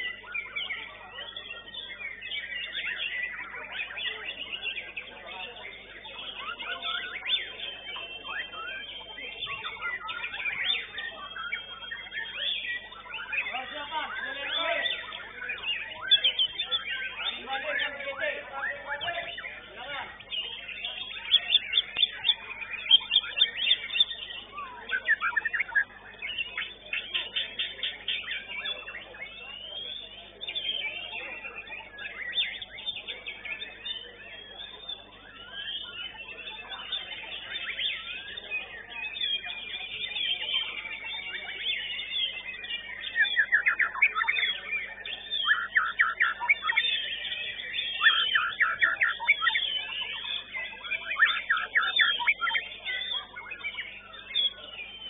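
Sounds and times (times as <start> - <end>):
birds singing whistled chirps: 0.0 - 55.0.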